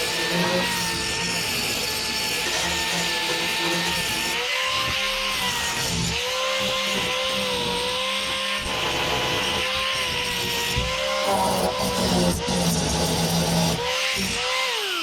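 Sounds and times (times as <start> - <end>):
power tool grinding steel hull: 0.0 - 15.0.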